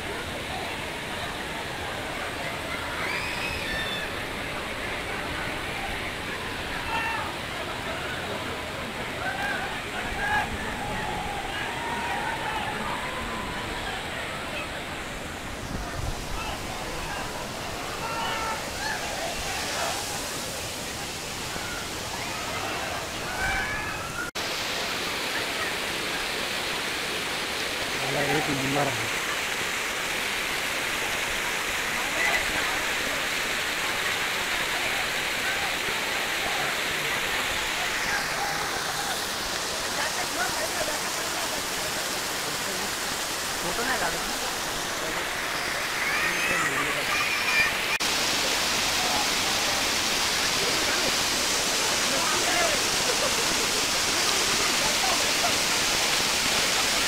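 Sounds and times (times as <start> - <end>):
faint voices: 0.0 - 29.7, 30.9 - 57.0
waterfall rushing: 0.0 - 57.0.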